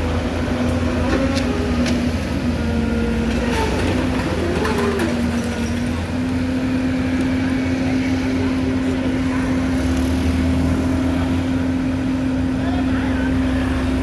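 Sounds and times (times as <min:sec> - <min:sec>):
excavator diesel engine: 0:00.0 - 0:14.0.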